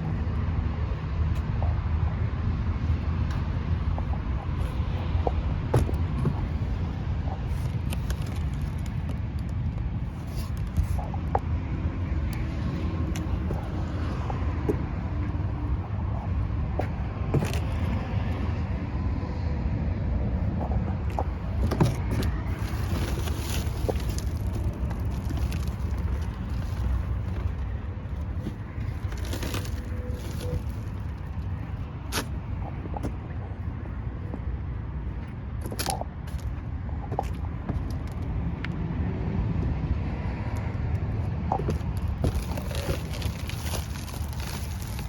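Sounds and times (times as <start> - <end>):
vehicle engine rumble: 0.0 - 45.0.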